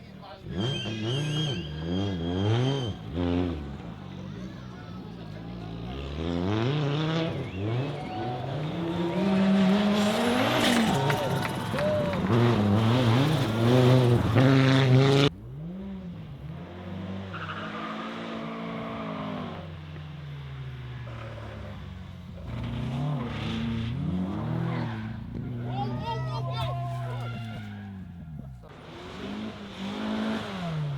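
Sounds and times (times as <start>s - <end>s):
quieter car engine: 0.0s - 30.9s
rally car engine accelerating: 0.0s - 30.9s.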